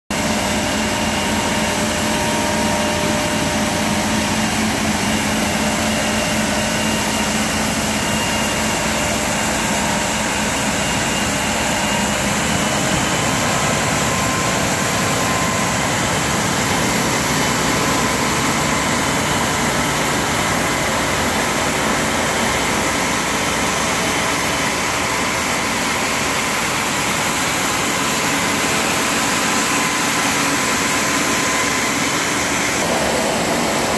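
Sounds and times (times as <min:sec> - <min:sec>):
road sweeper machine noise: 0:00.1 - 0:33.9.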